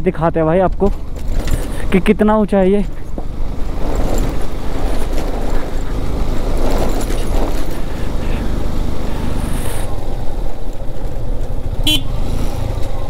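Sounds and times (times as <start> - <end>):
motorcycle engine running: 0.6 - 13.0.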